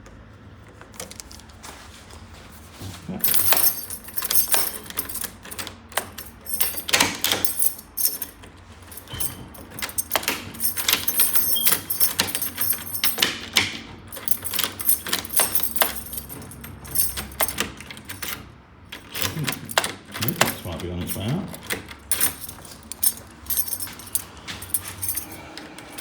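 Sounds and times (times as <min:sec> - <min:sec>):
keys jingling and clicking: 0:00.7 - 0:01.7, 0:03.1 - 0:26.0.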